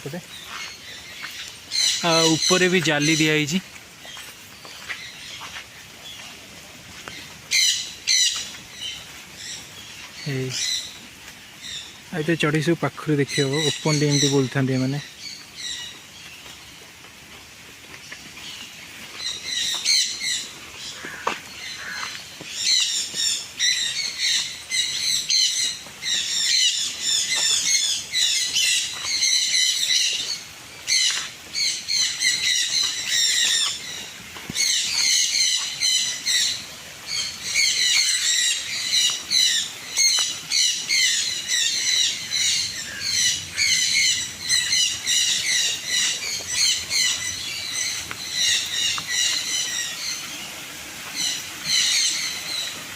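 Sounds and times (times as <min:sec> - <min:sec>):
flock of birds chattering: 0:00.0 - 0:52.9.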